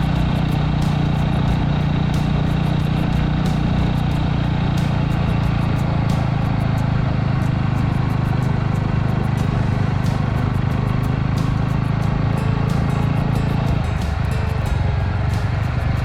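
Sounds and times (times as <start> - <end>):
single-cylinder engine running: 0.0 - 16.0.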